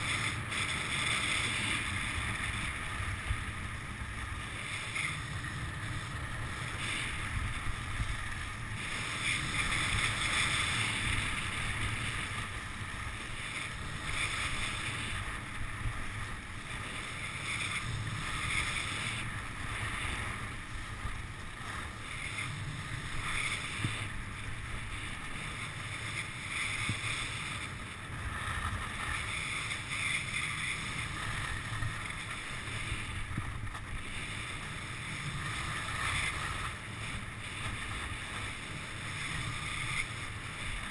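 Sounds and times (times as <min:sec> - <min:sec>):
skis scraping on snow: 0:00.0 - 0:40.9
wind rushing over microphone: 0:00.0 - 0:40.9.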